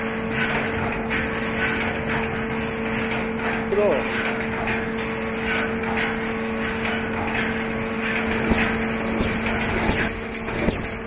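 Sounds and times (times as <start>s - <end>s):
welding machine humming: 0.0s - 11.0s
wire clattering and knocking: 0.4s - 11.0s.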